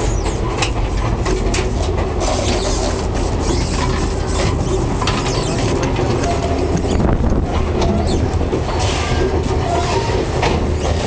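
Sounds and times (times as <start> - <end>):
train running low rumble: 0.0 - 11.0.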